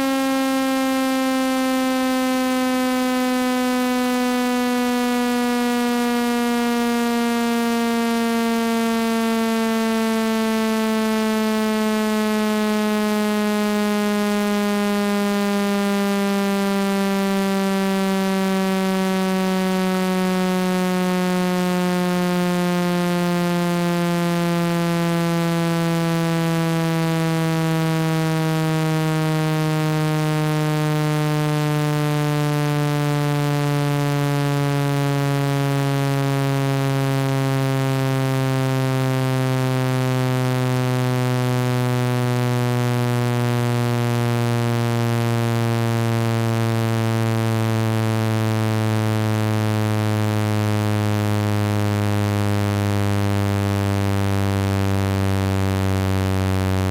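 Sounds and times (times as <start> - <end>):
buzzy tone falling in pitch: 0.0 - 56.9.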